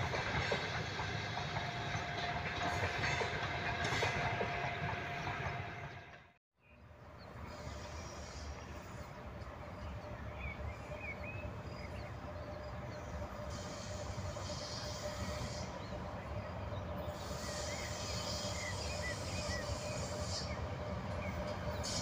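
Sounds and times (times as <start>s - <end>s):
train approaching rumble: 0.0s - 22.0s.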